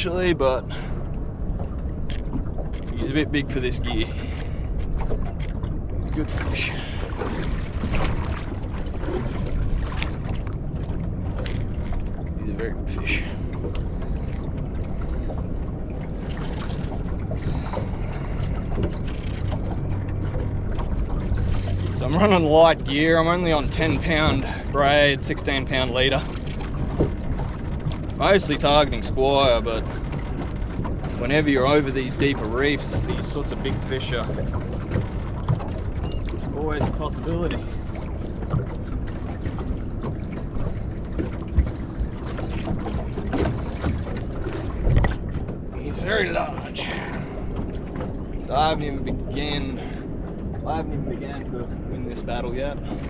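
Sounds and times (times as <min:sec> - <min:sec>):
low hum: 0:00.0 - 0:53.0
water around boat: 0:00.0 - 0:53.0
wind buffeting microphone: 0:00.0 - 0:53.0.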